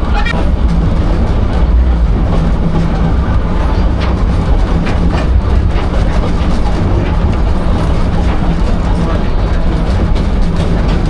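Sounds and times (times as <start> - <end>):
train car rumbling on track: 0.0 - 11.0
wheel clacks over rail joints: 0.0 - 11.0.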